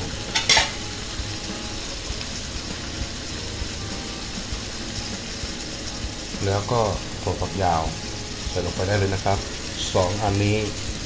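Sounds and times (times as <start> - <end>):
curry sizzling and bubbling: 0.0 - 11.0.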